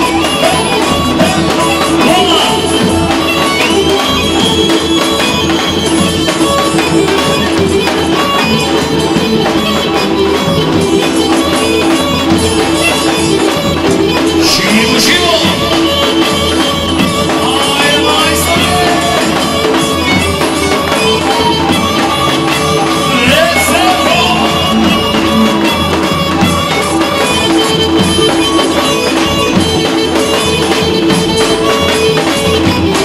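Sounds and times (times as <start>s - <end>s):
bagpipe folk dance tune: 0.0s - 33.0s
band percussion: 0.0s - 33.0s.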